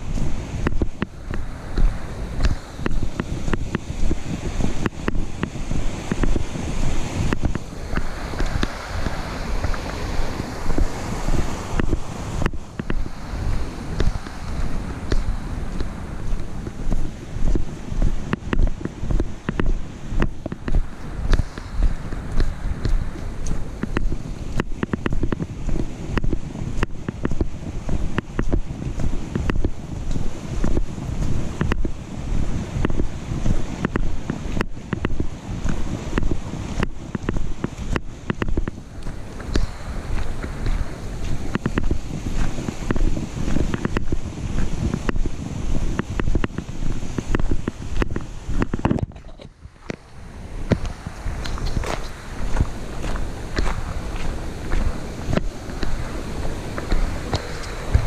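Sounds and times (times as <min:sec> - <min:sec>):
creek water rushing: 0:00.0 - 0:58.0
footsteps on gravel trail: 0:00.0 - 0:58.0
wind on microphone: 0:00.0 - 0:58.0.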